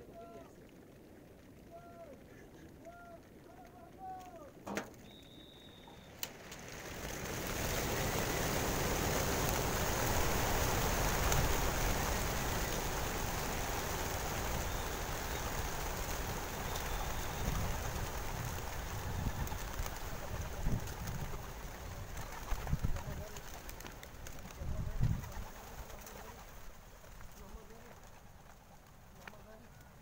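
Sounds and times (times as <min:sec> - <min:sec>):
pigeon flock wingbeats: 0:00.0 - 0:30.0.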